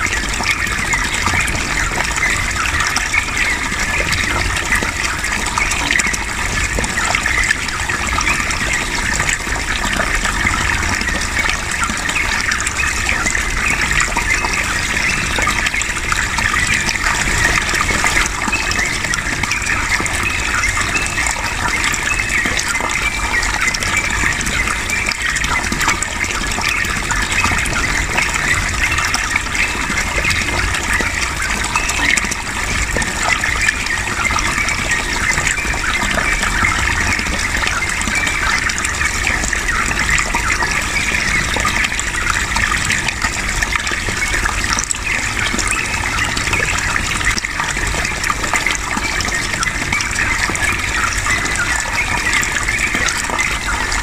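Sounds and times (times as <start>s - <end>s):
running water gushing: 0.0s - 54.0s.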